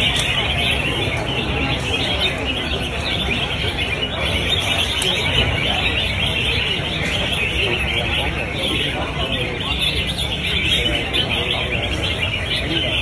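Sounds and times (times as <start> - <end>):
caged birds singing in chorus: 0.0 - 13.0
low crowd murmur: 0.0 - 13.0.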